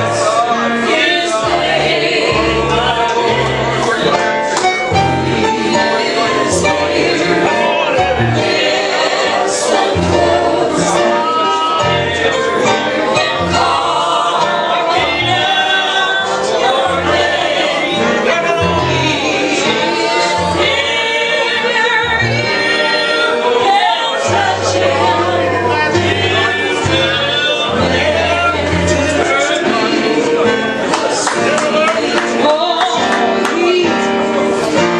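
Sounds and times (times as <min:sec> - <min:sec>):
band playing gospel music: 0:00.0 - 0:34.9
voices singing together: 0:00.0 - 0:34.9.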